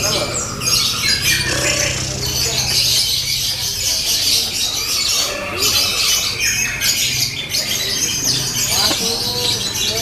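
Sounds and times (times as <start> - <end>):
lovebirds chattering trill: 0.0 - 10.0.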